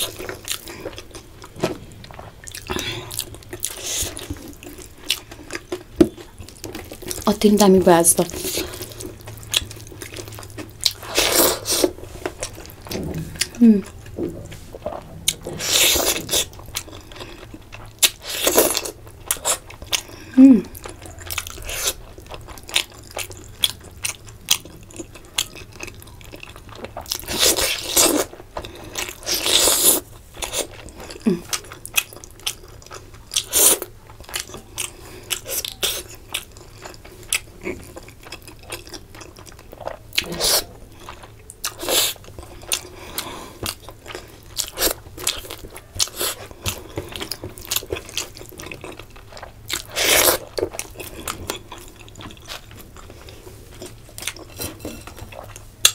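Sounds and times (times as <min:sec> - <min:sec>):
wet chewing: 0:00.0 - 0:55.9.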